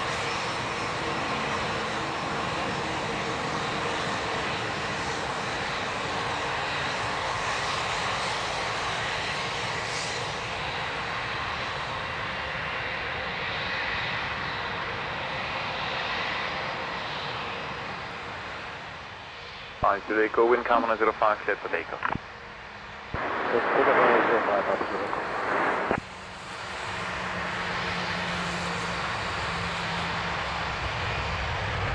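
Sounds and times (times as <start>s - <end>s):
jet engines roaring: 0.0s - 31.9s.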